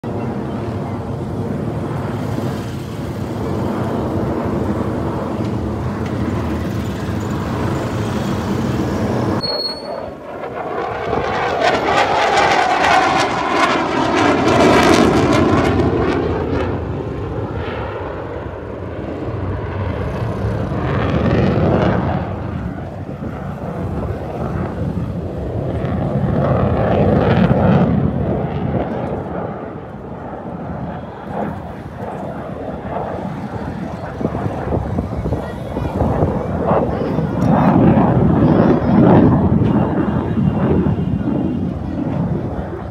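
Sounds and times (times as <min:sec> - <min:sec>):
jet aircraft roar: 0:00.0 - 0:42.9
jet pass whoosh: 0:01.4 - 0:42.9.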